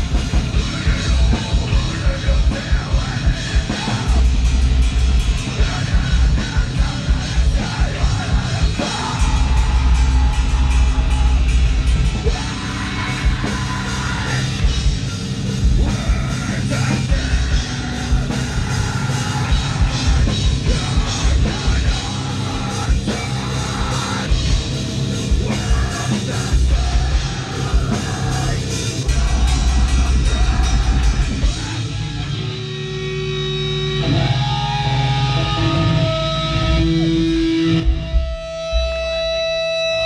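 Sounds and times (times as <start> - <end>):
live heavy rock band: 0.0 - 40.0.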